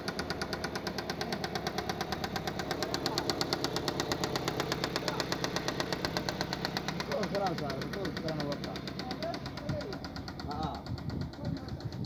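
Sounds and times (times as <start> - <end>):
car engine idling: 0.0 - 12.0
rapid even ticking: 0.0 - 12.0.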